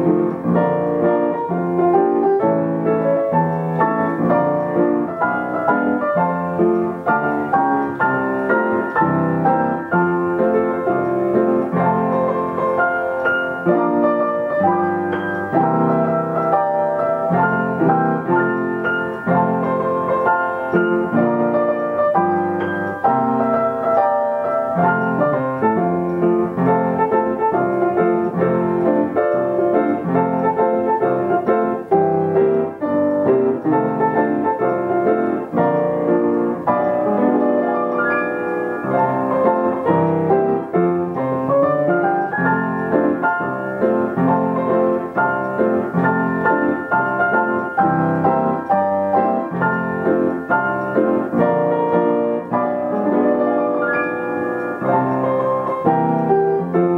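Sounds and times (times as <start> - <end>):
piano playing song tune: 0.0 - 56.9.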